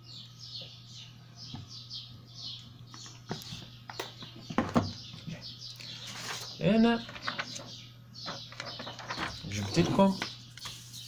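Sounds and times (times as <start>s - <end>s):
low electrical hum: 0.0s - 11.0s
small bird chirping: 0.0s - 11.0s.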